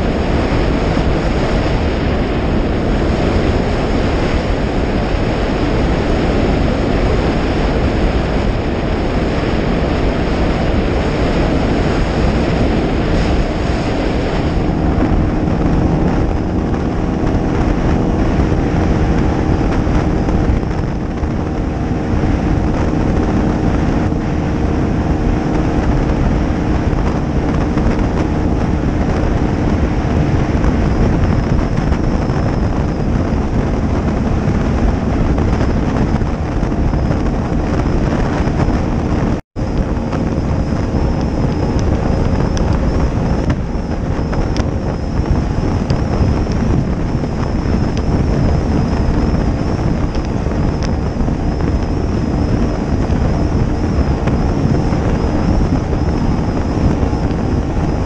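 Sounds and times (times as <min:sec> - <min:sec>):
outboard motor running: 0:00.0 - 0:58.0
water rushing past hull: 0:00.0 - 0:58.0
wind buffeting microphone: 0:00.0 - 0:58.0.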